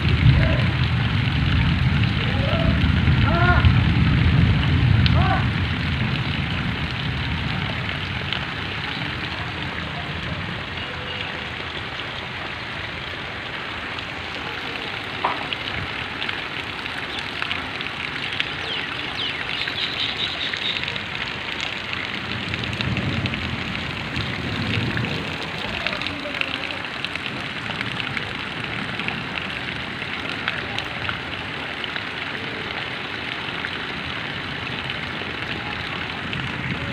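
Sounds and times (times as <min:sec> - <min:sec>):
heavy rain on muddy ground: 0:00.0 - 0:36.9.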